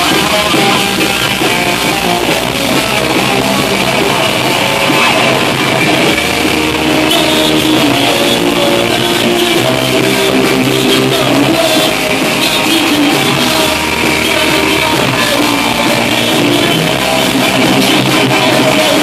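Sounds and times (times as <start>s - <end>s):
drum kit: 0.0s - 19.0s
electric guitars: 0.0s - 19.0s.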